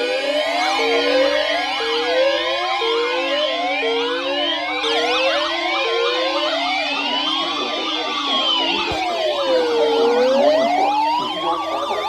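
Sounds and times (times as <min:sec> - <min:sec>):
fast yelping sirens: 0:00.0 - 0:12.0
wailing sirens: 0:00.0 - 0:12.0.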